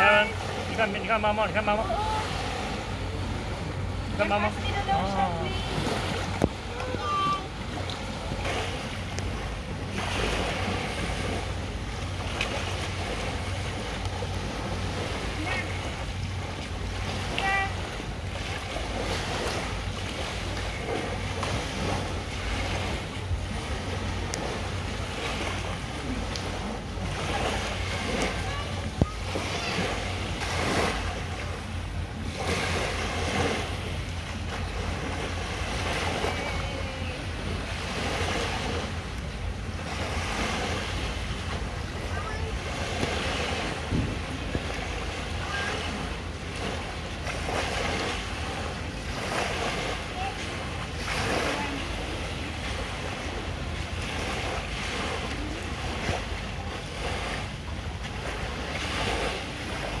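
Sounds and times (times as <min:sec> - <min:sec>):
small waves lapping on shore: 0:00.0 - 1:00.0
wind rumbling on microphone: 0:01.9 - 1:00.0.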